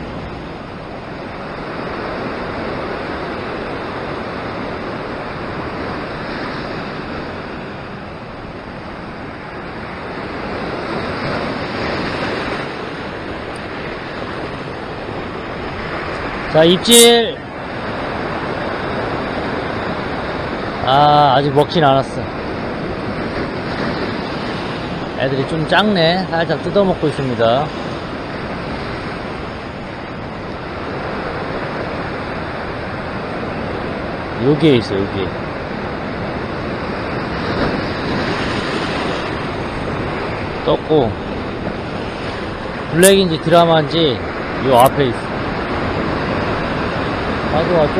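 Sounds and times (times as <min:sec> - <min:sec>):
surf washing over rocks: 0:00.0 - 0:47.9.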